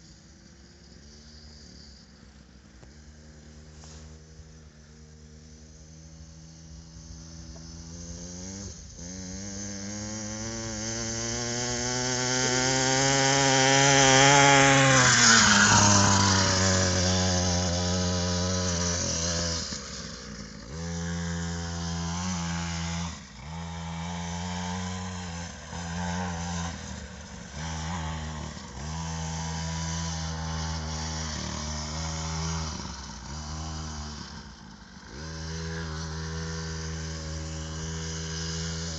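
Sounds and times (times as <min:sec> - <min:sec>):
dirt bike engine revving: 0:02.8 - 0:38.9.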